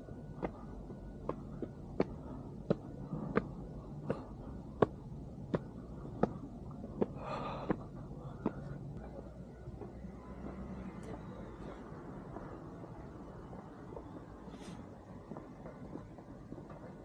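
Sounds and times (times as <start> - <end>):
clicking footsteps: 0.0 - 17.0.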